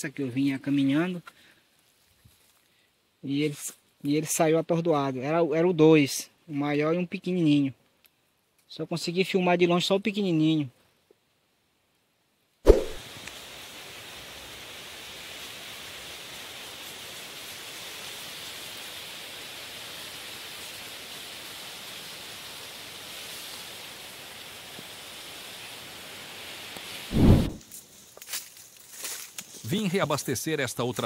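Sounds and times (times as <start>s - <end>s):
steady hiss: 0.0s - 8.5s, 12.8s - 31.0s.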